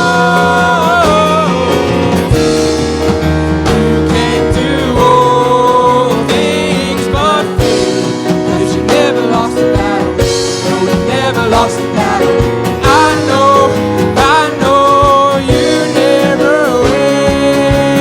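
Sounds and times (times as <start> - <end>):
sliding melody line: 0.0 - 18.0
worship band music with guitar: 0.0 - 18.0.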